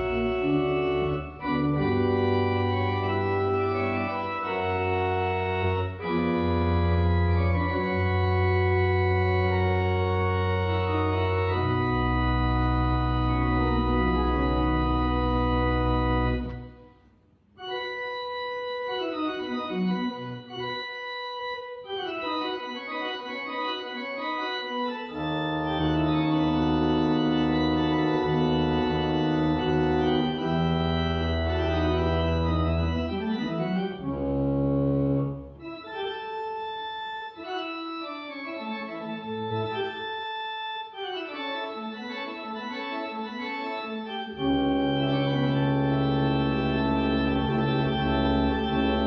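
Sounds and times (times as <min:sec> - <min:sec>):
deep organ pedal bass notes: 0:00.0 - 0:16.9, 0:17.6 - 0:49.0
pipe organ chords: 0:00.0 - 0:49.0.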